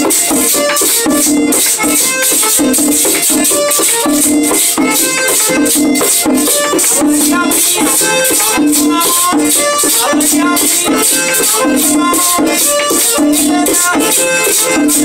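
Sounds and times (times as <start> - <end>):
accordion melody: 0.0 - 15.0
drum beat: 0.0 - 15.0.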